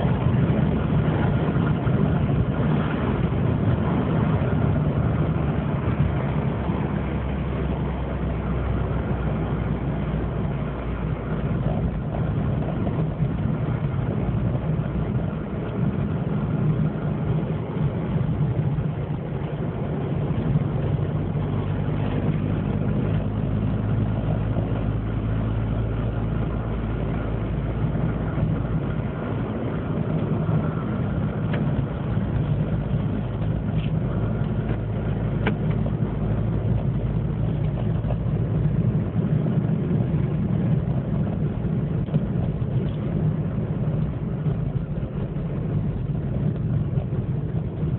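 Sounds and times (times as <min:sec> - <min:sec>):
car engine running with deep hum: 0:00.0 - 0:47.9.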